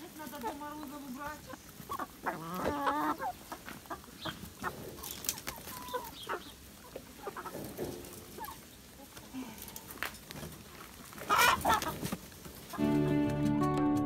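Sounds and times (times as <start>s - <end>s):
chickens clucking: 0.0s - 13.1s.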